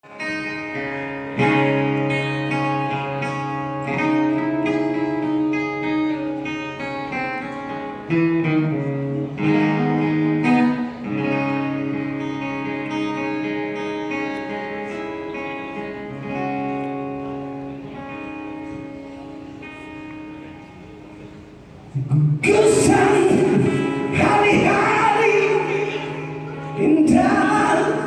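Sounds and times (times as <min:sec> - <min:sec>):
guitar chords: 0:00.0 - 0:28.0.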